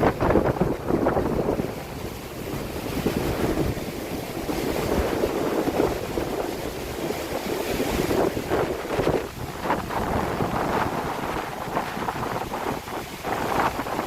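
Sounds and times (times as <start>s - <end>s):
surf breaking on beach: 0.0s - 14.0s
wind rumbling on microphone: 0.0s - 14.0s.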